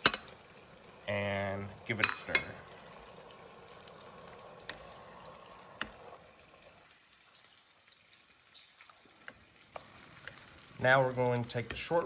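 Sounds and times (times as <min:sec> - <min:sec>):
hot oil sizzling in a frying pan: 0:00.0 - 0:12.0.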